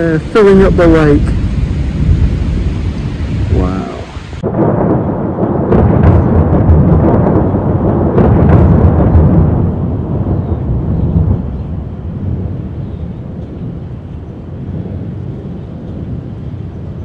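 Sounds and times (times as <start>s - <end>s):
rolling thunder: 0.0s - 17.0s.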